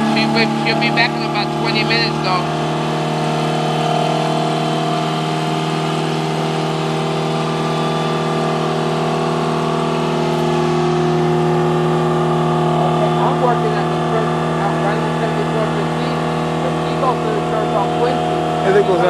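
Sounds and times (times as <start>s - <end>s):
gasoline engine humming: 0.0s - 19.0s.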